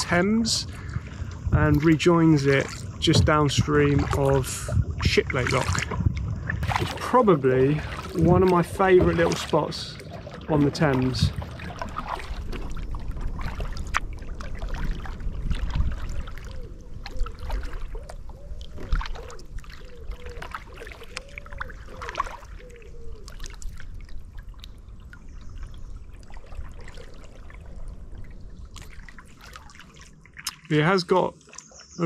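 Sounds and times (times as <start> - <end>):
paddle splashing in water: 0.0 - 32.0
water dripping off paddle: 0.0 - 32.0.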